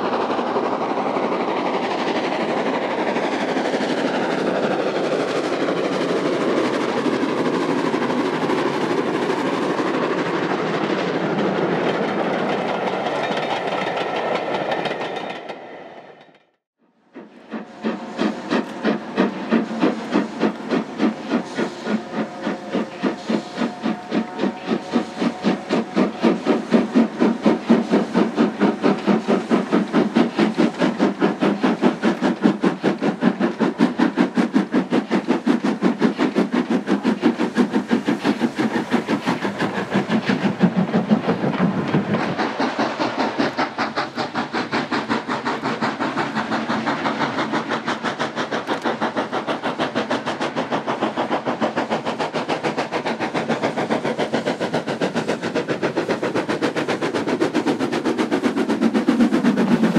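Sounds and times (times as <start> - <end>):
steam locomotive exhaust beats: 0.0 - 16.2, 16.9 - 59.9
train carriages rolling past: 0.0 - 59.9.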